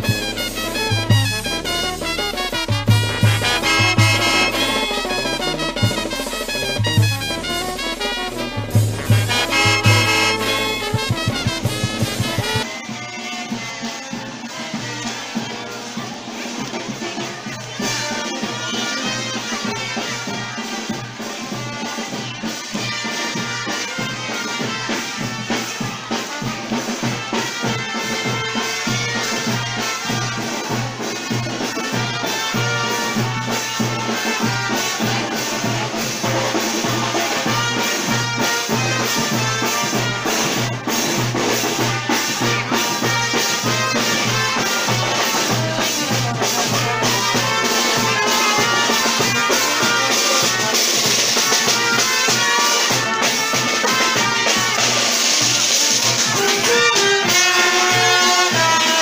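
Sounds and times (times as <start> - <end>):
brass band playing: 0.0 - 59.0
steady drumbeat: 0.0 - 59.0.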